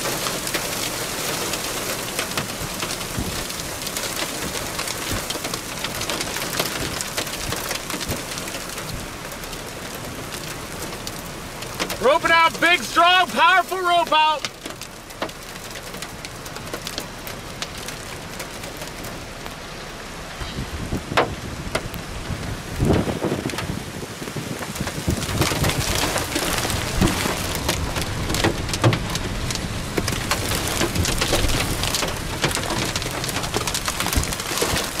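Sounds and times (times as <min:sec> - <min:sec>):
heavy rain: 0:00.0 - 0:35.0
raindrops tapping a surface: 0:00.0 - 0:35.0.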